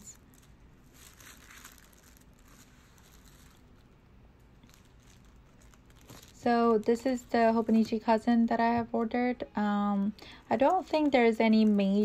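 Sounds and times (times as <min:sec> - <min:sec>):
plastic packaging crinkling: 0:00.0 - 0:08.5, 0:10.2 - 0:12.0.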